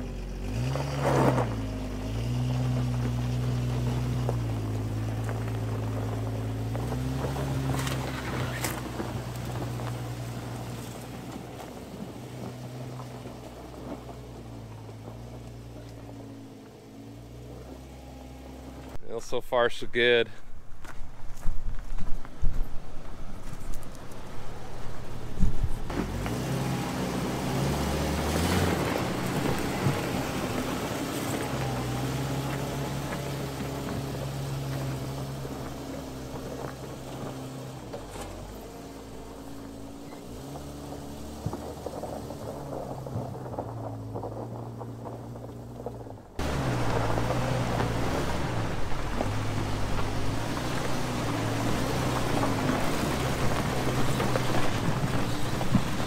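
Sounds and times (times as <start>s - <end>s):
vehicle driving on gravel: 0.0s - 56.0s.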